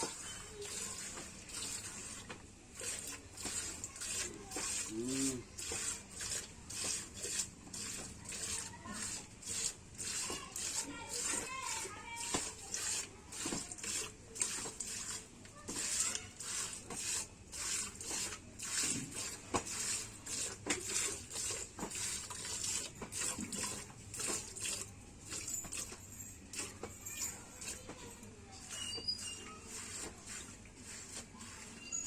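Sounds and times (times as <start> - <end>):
milk squirting into a pail: 0.0 - 32.0.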